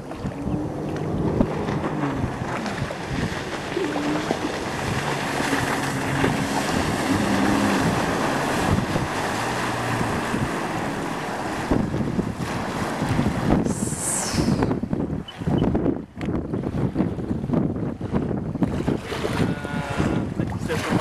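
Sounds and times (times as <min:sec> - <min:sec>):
personal watercraft engine: 0:00.0 - 0:21.0
rush of spray and wake: 0:00.0 - 0:21.0
wind buffeting microphone: 0:00.0 - 0:21.0.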